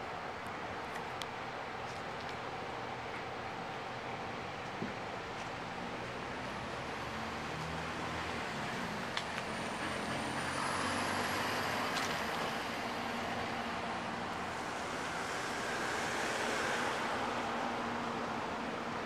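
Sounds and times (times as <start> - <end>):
traffic road rumble: 0.0 - 19.0.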